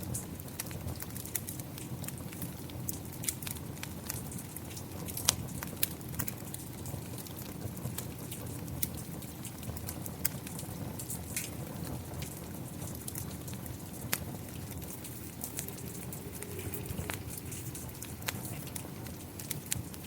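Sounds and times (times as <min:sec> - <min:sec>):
fire crackling and popping: 0:00.0 - 0:20.0
steady rain: 0:00.0 - 0:20.0.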